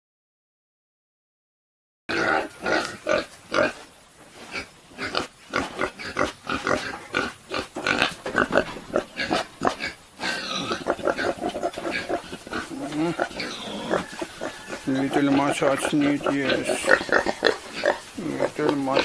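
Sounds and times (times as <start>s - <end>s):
pigs grunting: 2.1s - 19.0s.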